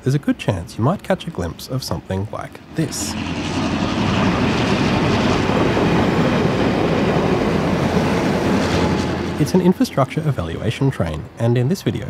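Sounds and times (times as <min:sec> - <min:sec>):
diesel locomotive engine: 0:00.0 - 0:12.0
train wheels rolling on rails: 0:00.8 - 0:12.0.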